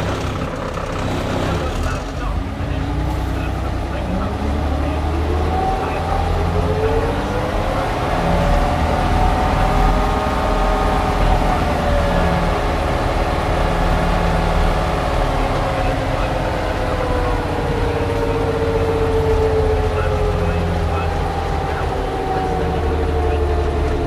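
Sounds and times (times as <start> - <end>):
winch engine running hard: 0.0 - 24.0.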